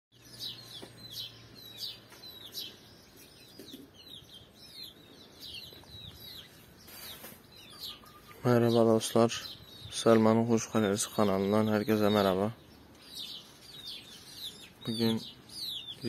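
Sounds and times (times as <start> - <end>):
chicks peeping: 0.2 - 16.0.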